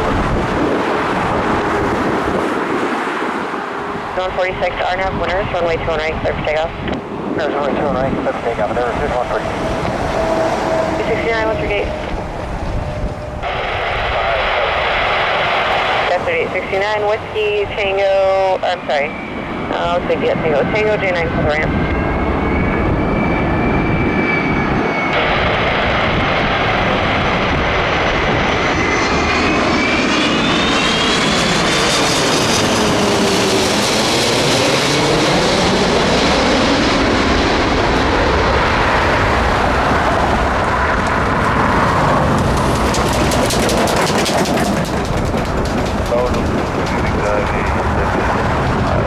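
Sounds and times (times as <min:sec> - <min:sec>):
jet airliner engines roaring: 0:00.0 - 0:49.0.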